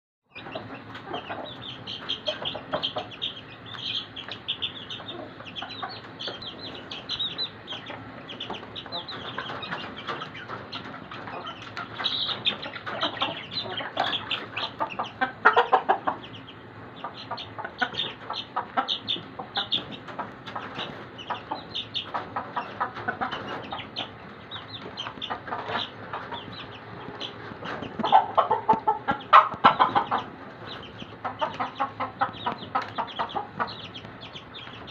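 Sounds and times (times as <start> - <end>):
baby chicks peeping: 0.3 - 34.9.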